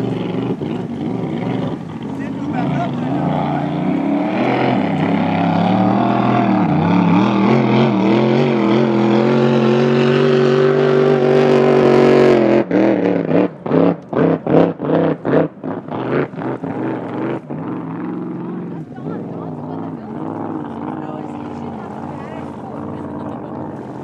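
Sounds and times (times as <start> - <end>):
supercharged boat engine roaring: 0.0 - 24.0.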